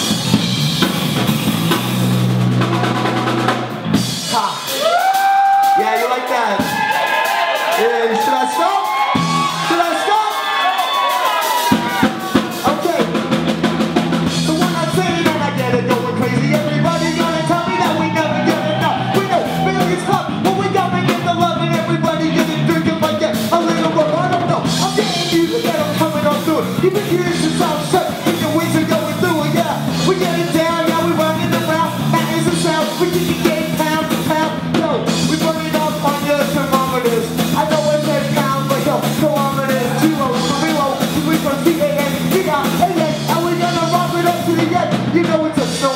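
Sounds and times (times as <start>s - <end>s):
bass notes: 0.0s - 5.7s, 9.0s - 9.8s, 11.7s - 45.9s
drum kit with cymbals: 0.0s - 45.9s.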